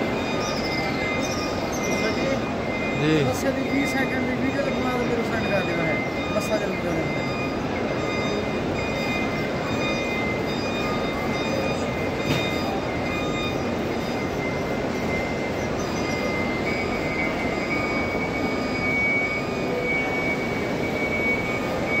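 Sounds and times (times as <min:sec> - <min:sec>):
crowd voices: 0:00.0 - 0:22.0.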